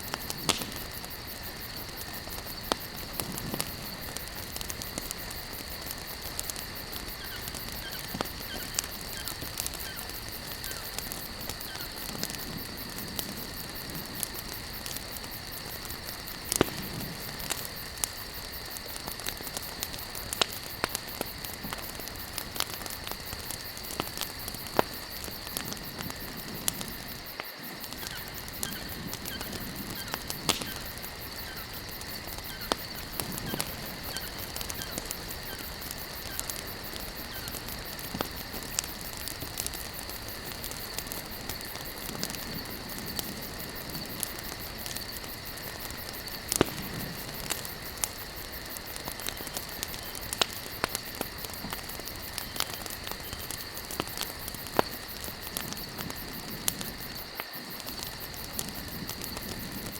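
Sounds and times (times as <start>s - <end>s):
hiss of flames: 0.0s - 59.9s
wood crackling and popping: 0.0s - 59.9s.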